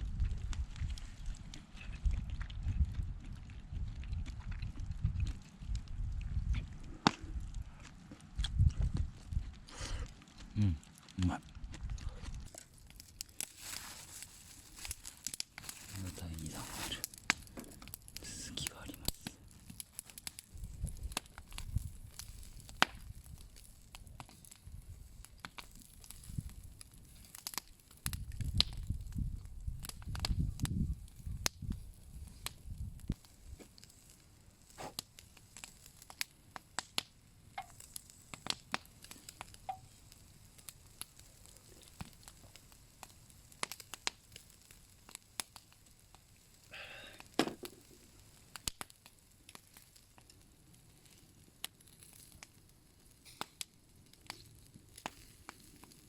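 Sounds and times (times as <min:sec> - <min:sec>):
bonfire crackling and popping: 0:00.0 - 0:56.0.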